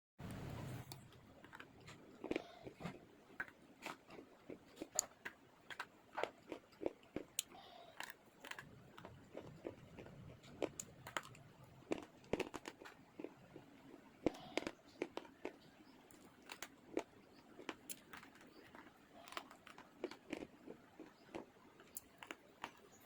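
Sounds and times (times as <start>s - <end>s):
chocolate crunching: 1.4s - 23.0s.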